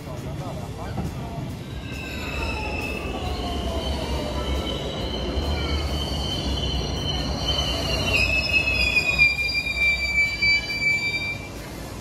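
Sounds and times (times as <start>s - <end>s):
train running rumble: 0.0s - 12.0s
train brakes squealing: 1.6s - 11.8s.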